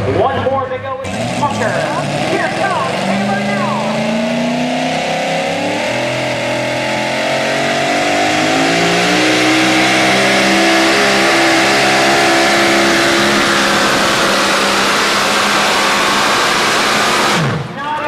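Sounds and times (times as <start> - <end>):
pulling truck engine under load: 0.0 - 17.8.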